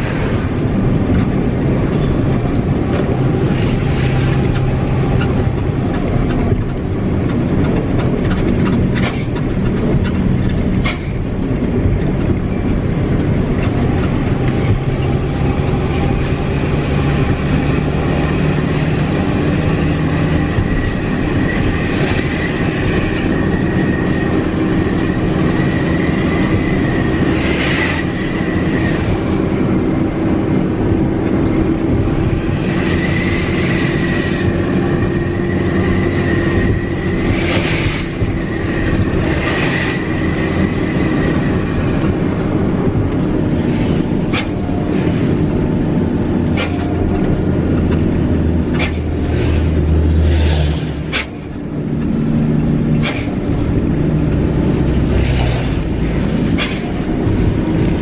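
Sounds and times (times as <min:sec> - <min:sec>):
diesel engine drone: 0:00.0 - 0:58.0
rattles and clicks in cab: 0:00.0 - 0:58.0.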